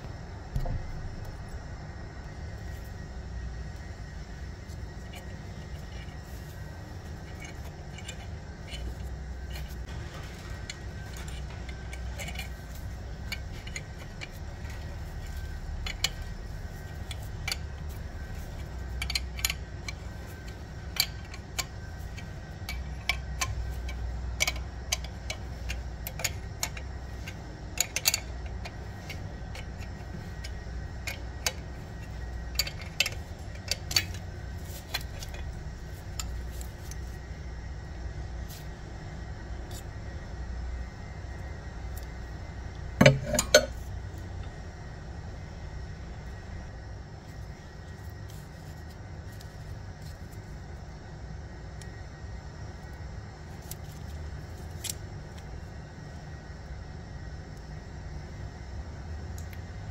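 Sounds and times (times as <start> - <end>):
low hum: 0.0 - 50.4.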